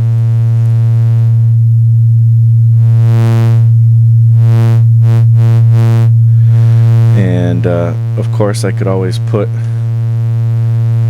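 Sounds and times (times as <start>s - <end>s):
low synthesizer drone: 0.0s - 11.0s.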